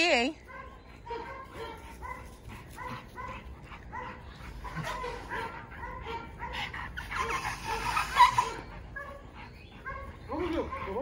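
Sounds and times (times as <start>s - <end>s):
dogs yipping and whining: 0.1s - 11.0s.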